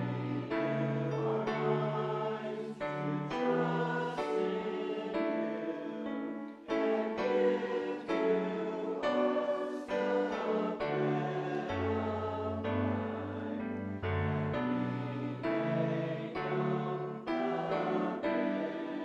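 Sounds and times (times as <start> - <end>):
congregation singing a hymn: 0.0 - 19.0
keyboard chords: 0.0 - 19.0.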